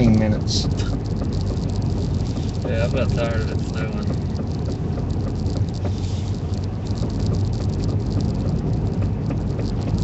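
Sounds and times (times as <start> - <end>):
tire chains clicking and rattling: 0.0 - 10.0
truck road rumble: 0.0 - 10.0.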